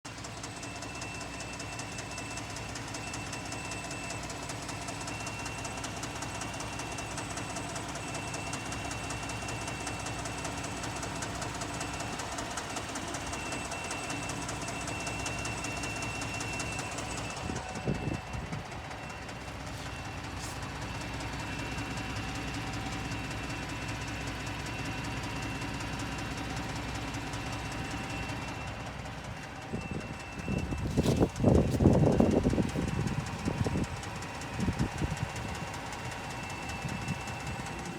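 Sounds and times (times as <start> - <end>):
engine clunking and clicking: 0.0 - 37.9
truck engine idling: 0.1 - 37.9.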